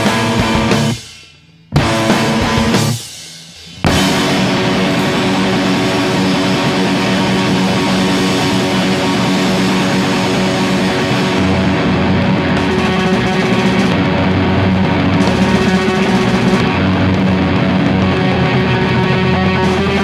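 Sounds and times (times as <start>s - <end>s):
electric guitar: 0.0s - 1.1s, 1.7s - 20.0s
drums: 0.0s - 20.0s.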